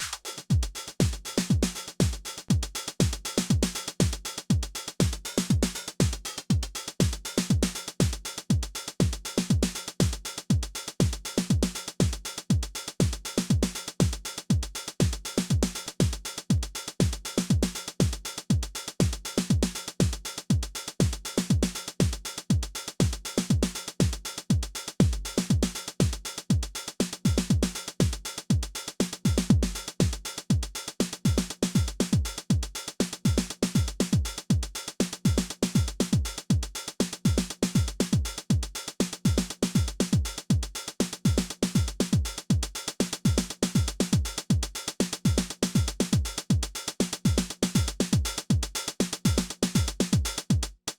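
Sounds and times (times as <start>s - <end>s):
deep kick drum: 0.0s - 50.8s
fast hi-hats: 0.0s - 50.9s.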